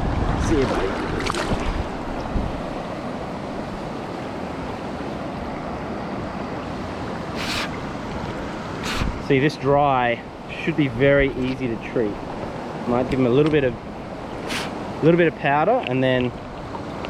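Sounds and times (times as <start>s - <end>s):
stream water rushing over rocks: 0.0s - 9.7s, 11.4s - 17.0s.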